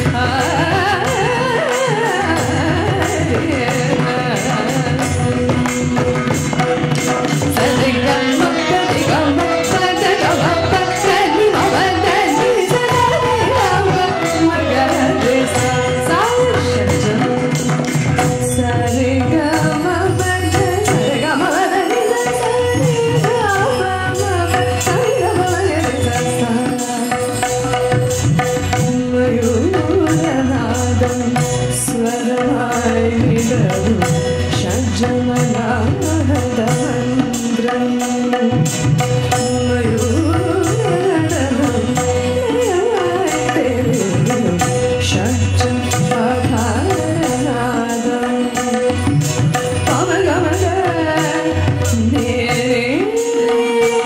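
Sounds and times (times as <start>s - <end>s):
hand drums: 0.0s - 54.0s
woman singing into microphone: 0.0s - 54.0s.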